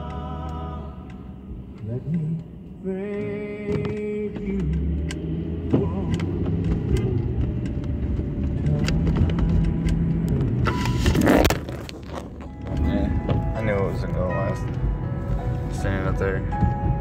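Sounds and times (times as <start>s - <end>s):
car engine hum: 0.0s - 17.0s
road noise: 0.0s - 17.0s.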